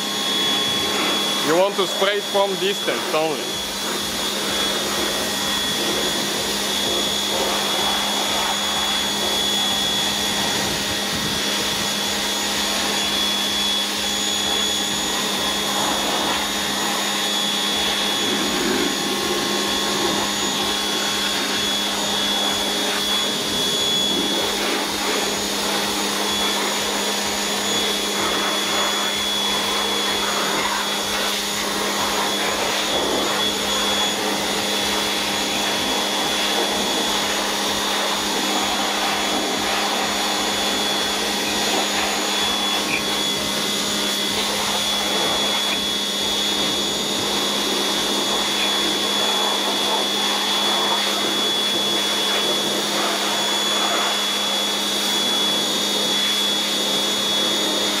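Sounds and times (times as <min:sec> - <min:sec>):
water jet hissing: 0:00.0 - 0:55.6
power washer pump humming: 0:00.0 - 0:58.0.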